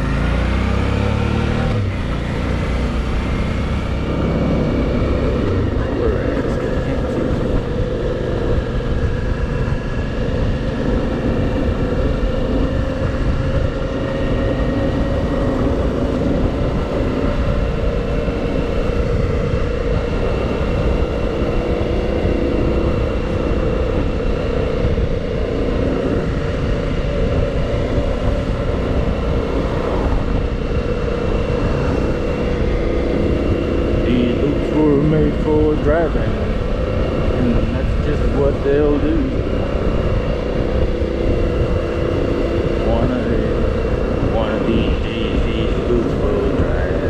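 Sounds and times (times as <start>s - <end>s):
motorcycle engine running: 0.0s - 47.0s
wind rumble on microphone: 0.0s - 47.0s.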